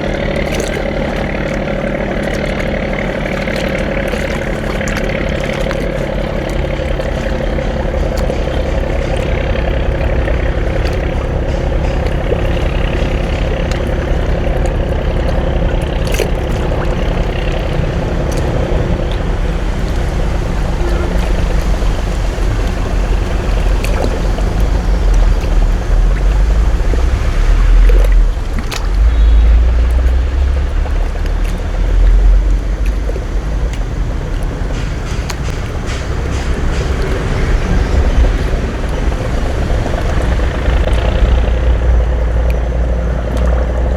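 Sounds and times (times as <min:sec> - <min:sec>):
boat engine rumbling: 0:00.0 - 0:43.9
heavy low rumbling swells: 0:00.0 - 0:43.9.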